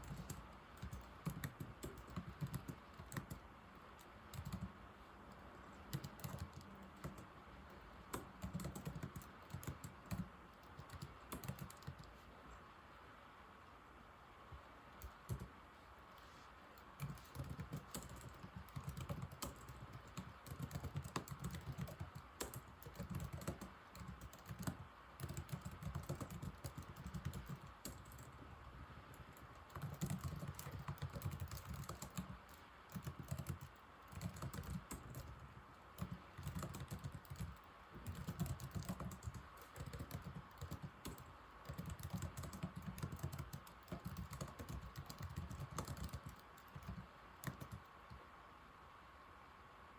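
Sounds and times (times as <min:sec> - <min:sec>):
laptop keyboard typing: 0:00.0 - 0:12.2, 0:15.0 - 0:15.6, 0:16.2 - 0:48.3
faint steady hum: 0:00.0 - 0:49.9.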